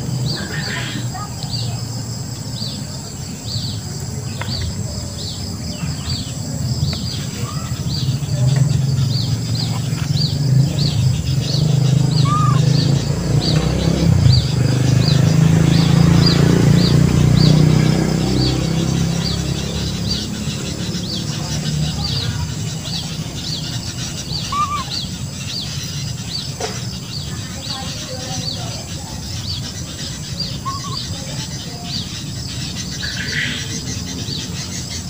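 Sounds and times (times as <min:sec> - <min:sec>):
bird chirping: 0:00.0 - 0:35.0.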